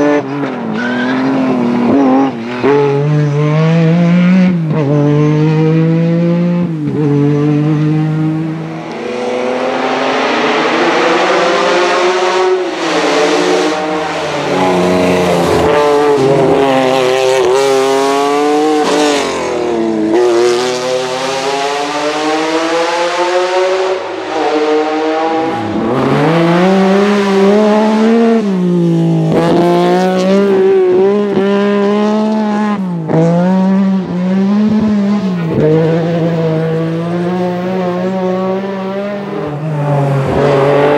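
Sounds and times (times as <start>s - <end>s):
rally car engine at full throttle: 0.0s - 40.9s.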